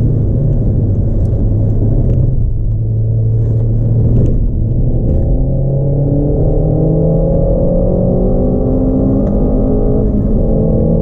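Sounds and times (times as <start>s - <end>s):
car engine driven hard: 0.0s - 11.0s.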